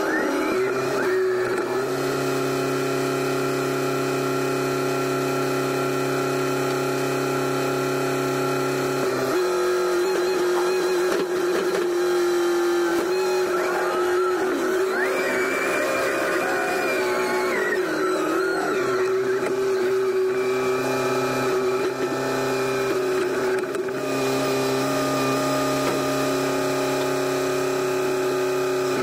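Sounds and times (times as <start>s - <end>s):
diesel engine running: 0.0s - 29.0s
hydraulics whining: 0.0s - 29.0s.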